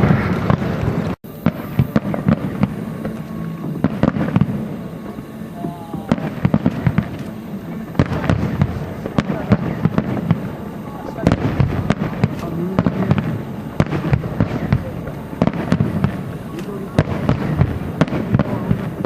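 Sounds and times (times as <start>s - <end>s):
fireworks bangs and crackles: 0.0s - 19.0s
steady rumble: 0.0s - 19.0s.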